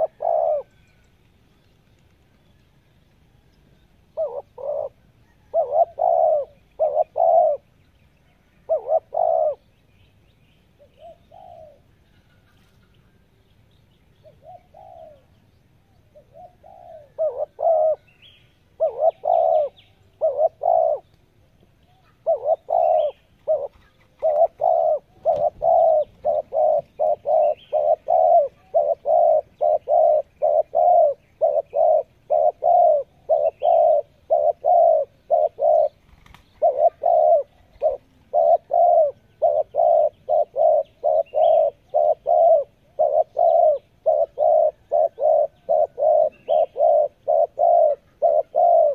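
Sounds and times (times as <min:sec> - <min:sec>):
dove cooing: 0:00.0 - 0:00.9, 0:04.1 - 0:07.8, 0:08.6 - 0:09.7, 0:10.8 - 0:12.9, 0:14.2 - 0:15.4, 0:16.1 - 0:21.1, 0:21.9 - 0:48.9
small birds chirping: 0:00.0 - 0:48.9.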